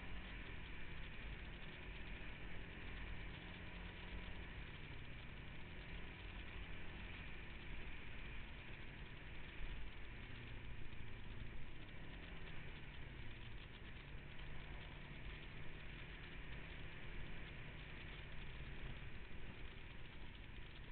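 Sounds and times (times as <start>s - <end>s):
vehicle engine running: 0.0s - 20.9s.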